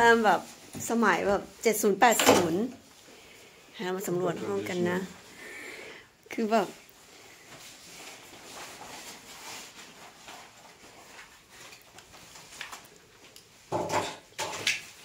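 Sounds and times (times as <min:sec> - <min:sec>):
faint rustling: 0:00.0 - 0:13.7.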